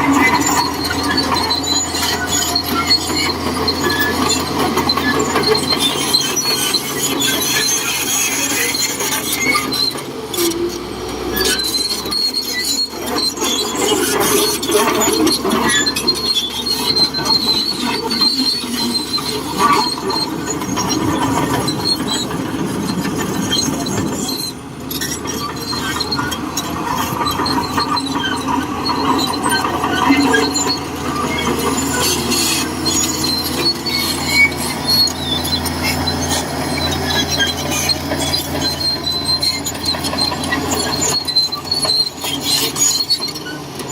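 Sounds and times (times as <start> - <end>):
bulldozer diesel engine running: 0.0 - 43.9
steel tracks squealing and clanking: 0.0 - 43.9.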